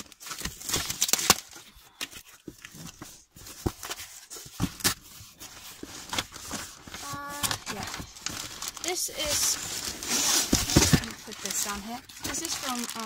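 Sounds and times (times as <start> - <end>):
cardboard box being opened: 0.2 - 13.0.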